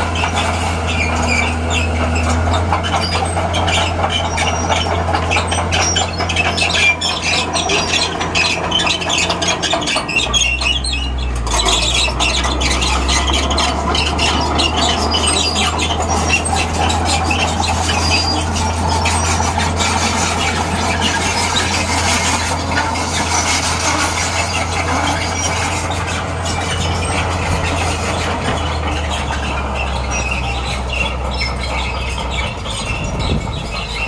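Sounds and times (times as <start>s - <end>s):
bulldozer diesel engine: 0.0s - 34.0s
crawler tracks squealing and clicking: 0.0s - 34.0s.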